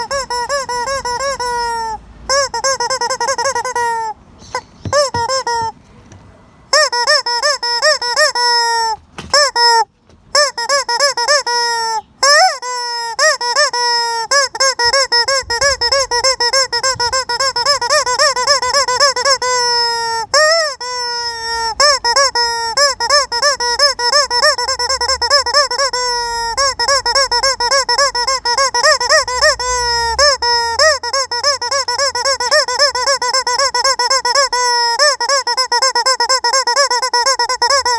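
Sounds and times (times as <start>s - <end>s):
rubber chicken toy squealing: 0.0s - 5.8s, 6.7s - 37.9s.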